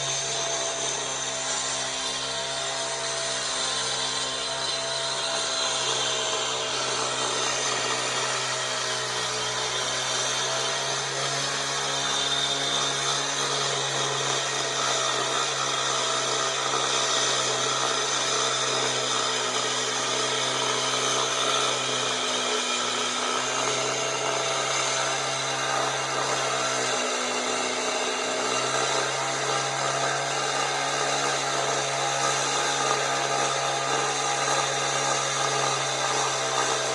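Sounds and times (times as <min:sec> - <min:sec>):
power saw cutting concrete: 0:00.0 - 0:36.9.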